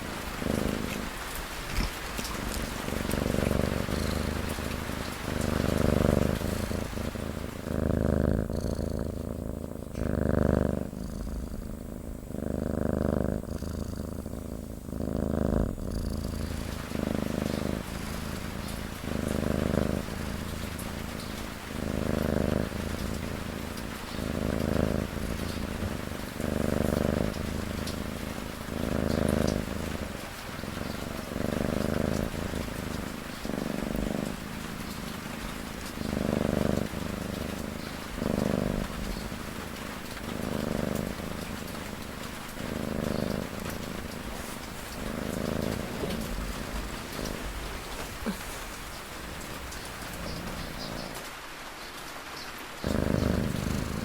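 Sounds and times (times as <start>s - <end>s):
cat snoring: 0.0s - 51.2s, 52.8s - 54.0s
steady rain: 0.0s - 54.0s.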